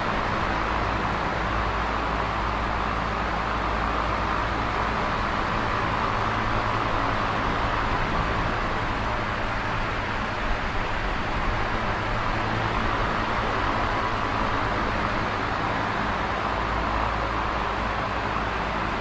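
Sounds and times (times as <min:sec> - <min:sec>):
fan air rushing: 0:00.0 - 0:19.0
fan motor hum: 0:00.0 - 0:19.0.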